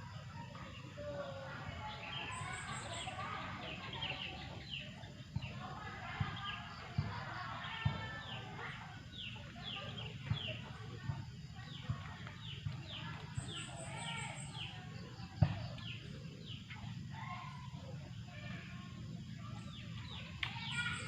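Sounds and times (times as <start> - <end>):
birds chirping: 0.4 - 21.0.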